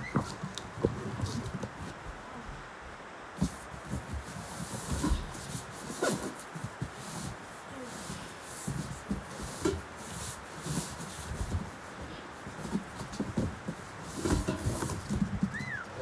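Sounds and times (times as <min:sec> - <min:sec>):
cardboard and paper rustling: 0:00.0 - 0:02.5, 0:03.4 - 0:16.0.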